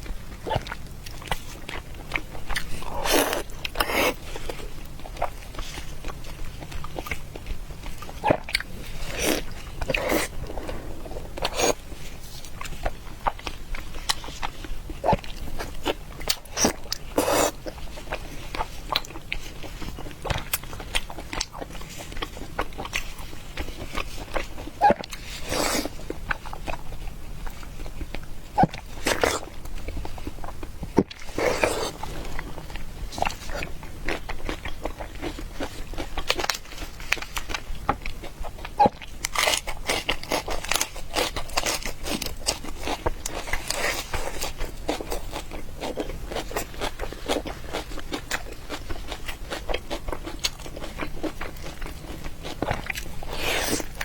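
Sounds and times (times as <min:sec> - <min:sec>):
wet chewing and biting: 0:00.0 - 0:54.0.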